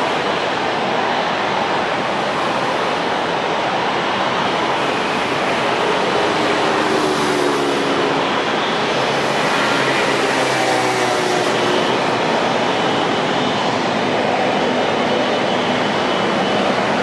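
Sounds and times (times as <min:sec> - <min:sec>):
faint engine whine: 0:00.0 - 0:17.0
jet engines running: 0:00.0 - 0:17.0.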